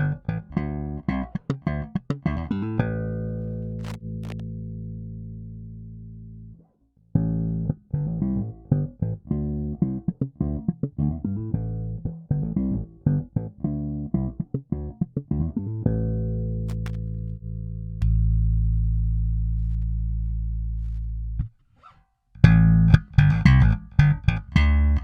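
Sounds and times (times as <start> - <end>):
electric bass notes: 0.0 - 21.6, 22.4 - 25.0.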